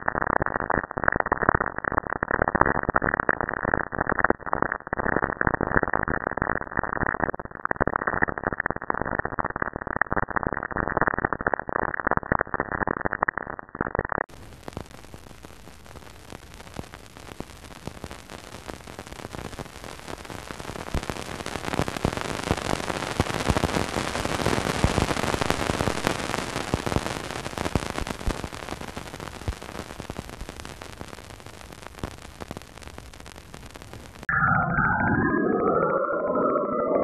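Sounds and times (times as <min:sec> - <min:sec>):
static hiss with crackles: 0:00.0 - 0:34.3.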